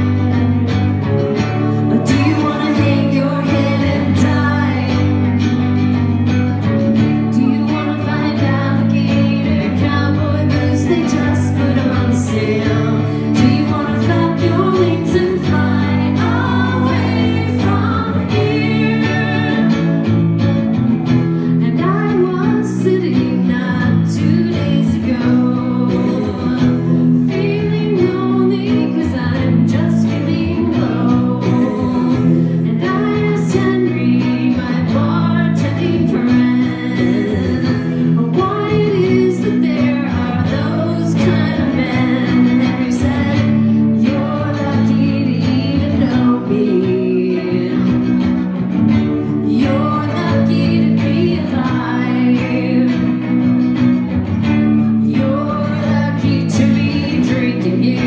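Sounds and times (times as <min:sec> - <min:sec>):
live rock band with electric guitar: 0:00.0 - 0:58.0
woman singing rock song: 0:00.0 - 0:58.0.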